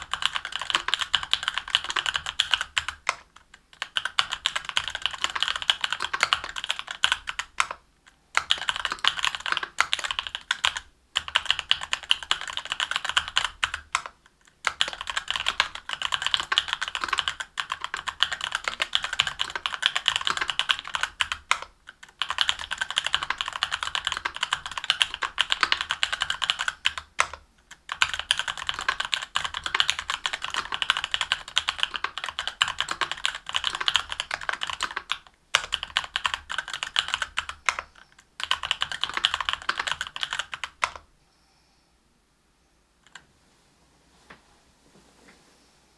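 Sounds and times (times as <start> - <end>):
fast typing on mechanical keyboard: 0.0 - 41.1.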